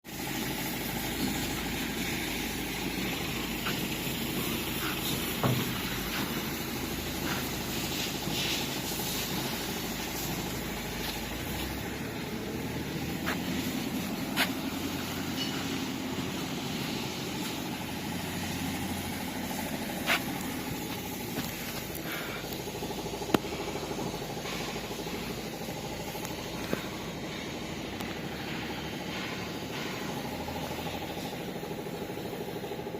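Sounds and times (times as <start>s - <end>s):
small diesel engine running: 0.1s - 32.9s.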